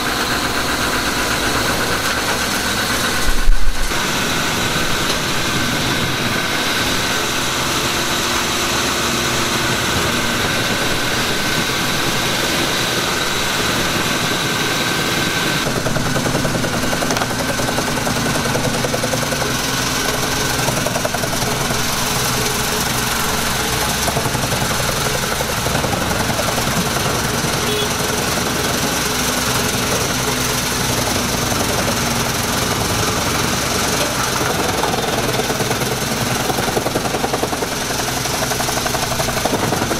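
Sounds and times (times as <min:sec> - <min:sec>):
tractor diesel engine under load: 0:00.0 - 0:39.9
wood chipper chewing branches: 0:00.0 - 0:39.9.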